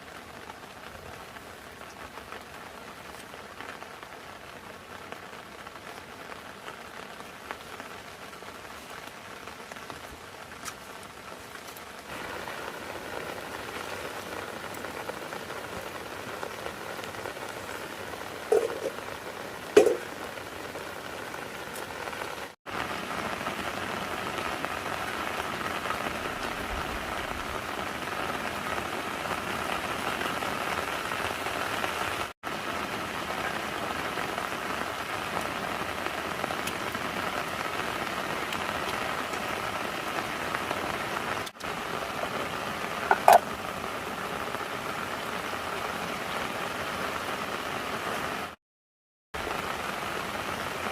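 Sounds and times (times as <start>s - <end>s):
steady rain falling: 0.0s - 48.6s, 49.4s - 50.9s.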